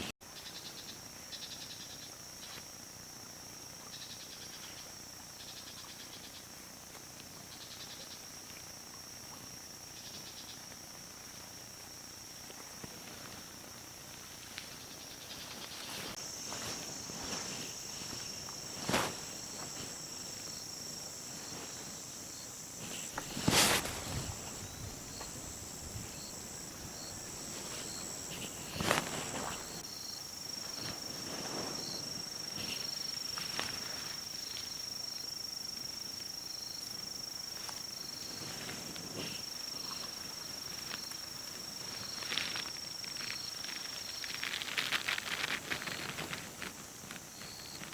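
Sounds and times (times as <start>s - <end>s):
crickets trilling: 0.0s - 47.9s
pulsing insect chirp: 0.3s - 47.9s.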